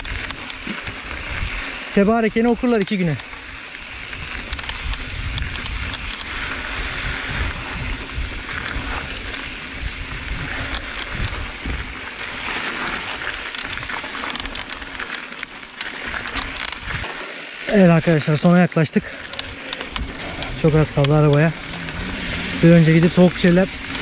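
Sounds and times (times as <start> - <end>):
wind noise on microphone: 0.0 - 2.6, 3.3 - 14.7, 16.2 - 17.1, 19.4 - 24.0
bike rattling: 0.0 - 24.0
tyres crunching over loose dirt: 0.0 - 24.0.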